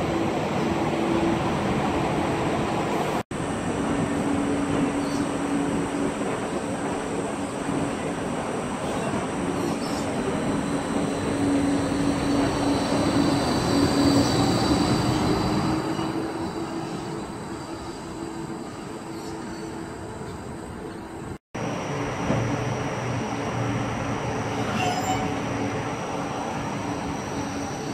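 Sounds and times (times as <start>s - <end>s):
tram electric hum: 0.0s - 27.9s
tram wheels rumbling: 0.0s - 27.9s.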